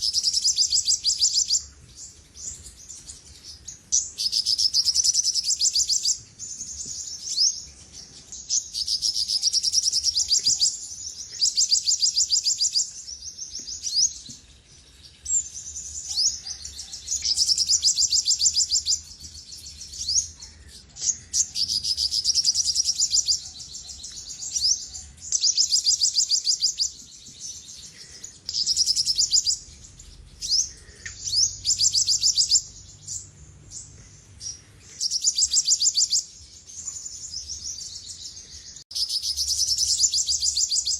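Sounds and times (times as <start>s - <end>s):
sunbird high trilled song: 0.0s - 20.4s, 21.1s - 40.9s.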